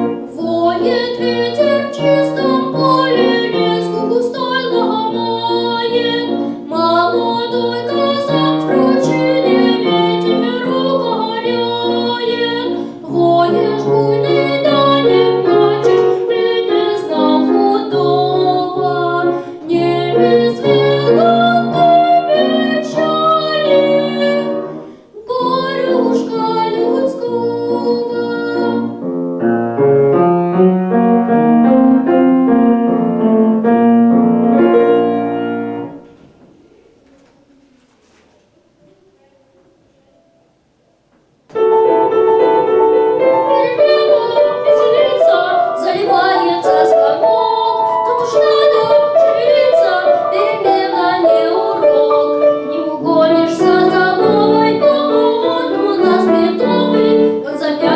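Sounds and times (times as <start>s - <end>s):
piano melody: 0.0s - 36.3s, 40.0s - 57.9s.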